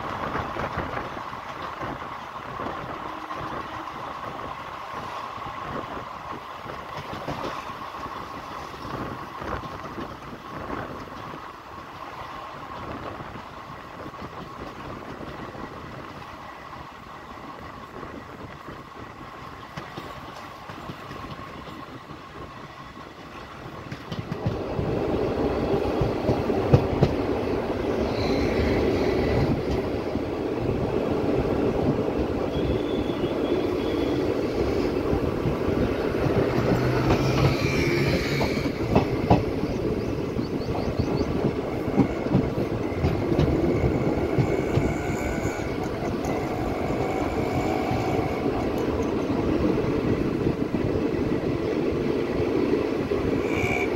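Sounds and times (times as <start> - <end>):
train wheels rumbling and clattering: 0.0 - 53.9.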